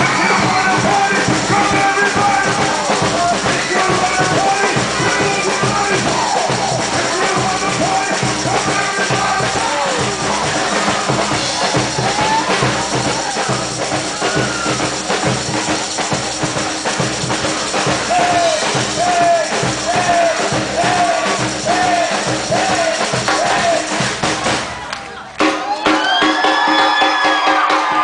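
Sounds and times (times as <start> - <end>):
samba drum band: 0.0 - 28.0.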